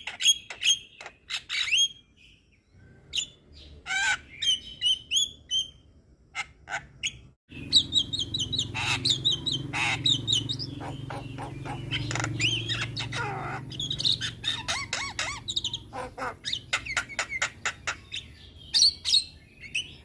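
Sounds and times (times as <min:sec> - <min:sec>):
myna bird singing: 0:00.0 - 0:20.0.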